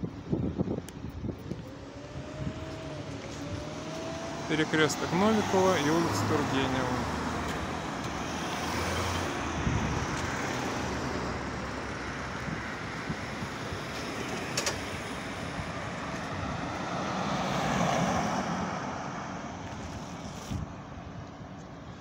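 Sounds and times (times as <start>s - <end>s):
car passing close: 1.4s - 20.7s
cars driving past: 1.4s - 21.9s.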